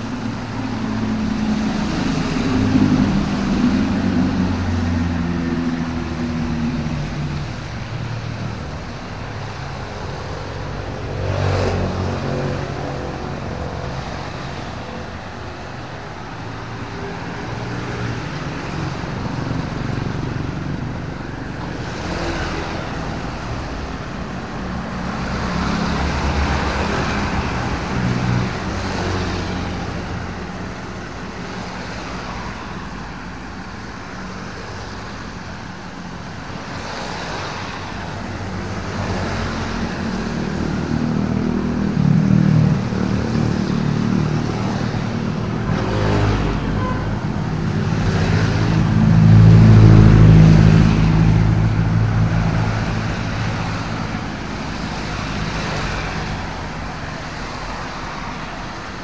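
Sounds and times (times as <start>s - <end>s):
motor vehicles passing: 0.0s - 59.0s.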